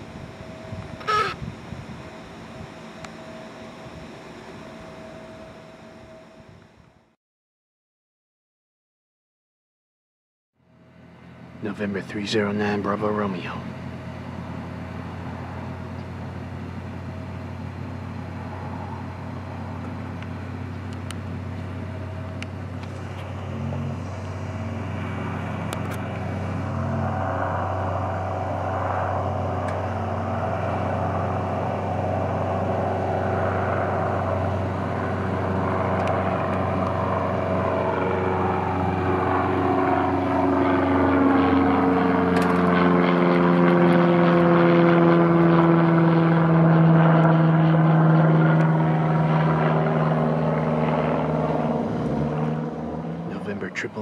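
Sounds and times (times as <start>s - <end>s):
propeller plane engine drone: 0.0s - 7.2s, 10.6s - 54.0s.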